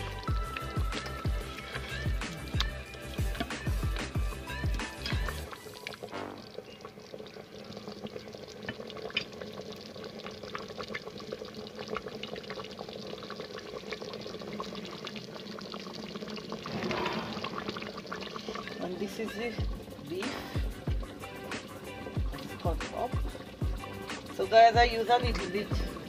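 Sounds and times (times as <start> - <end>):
gravy bubbling in a pot: 0.0 - 26.0.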